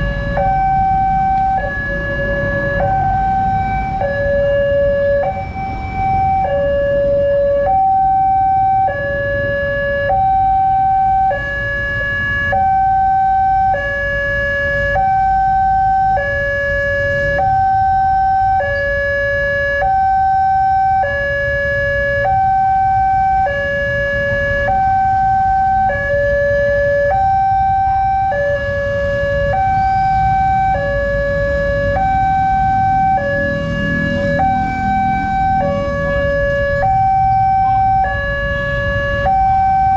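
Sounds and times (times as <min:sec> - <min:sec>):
low rumble of vehicle engines: 0:00.0 - 0:39.9
two-tone crossing alarm: 0:00.0 - 0:39.9.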